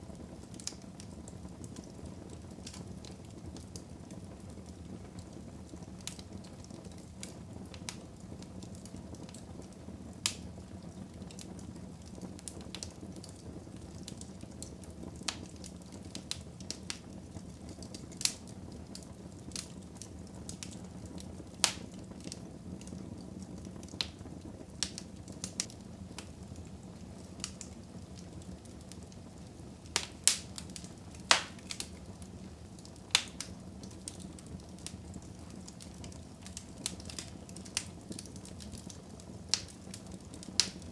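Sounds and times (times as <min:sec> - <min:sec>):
fire flames rumbling: 0:00.0 - 0:40.9
logs crackling and popping: 0:00.1 - 0:40.9.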